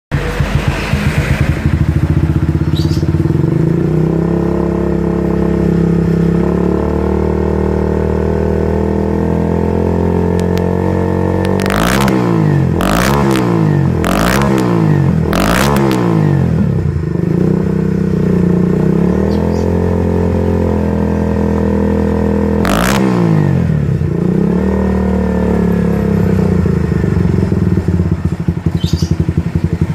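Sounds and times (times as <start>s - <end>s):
motorcycle engine idling: 0.1s - 11.6s, 12.3s - 22.6s, 23.4s - 29.9s
engine revving: 0.1s - 29.9s.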